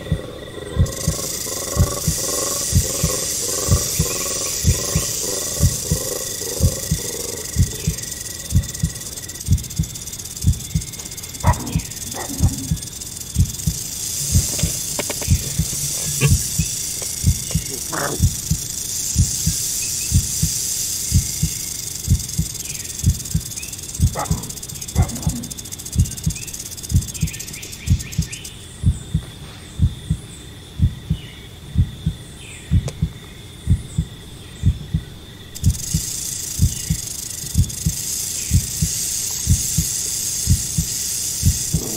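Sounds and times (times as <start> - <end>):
rattlesnake rattle hissing: 0.0 - 29.0, 35.4 - 41.9
heartbeat thumping: 0.0 - 41.9.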